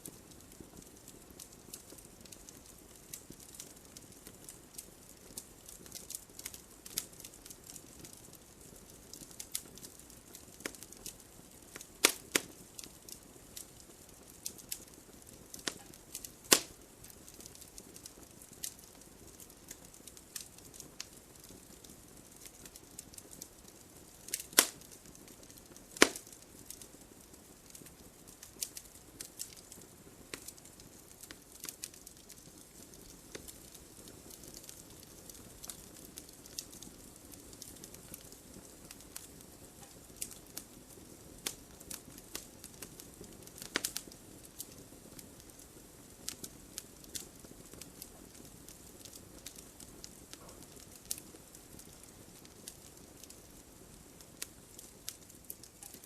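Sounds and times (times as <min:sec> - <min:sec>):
loud fire pops: 0:00.0 - 0:26.8, 0:27.6 - 0:56.0
faint fire hiss: 0:00.0 - 0:56.0
logs crackling in fireplace: 0:00.0 - 0:56.0.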